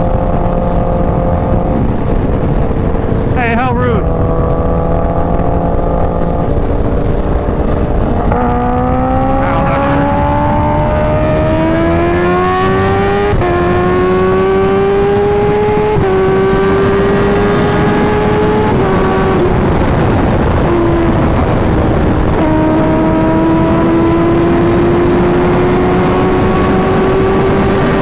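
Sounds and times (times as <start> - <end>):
motorcycle engine accelerating: 0.0 - 28.0
wind rush: 0.0 - 28.0.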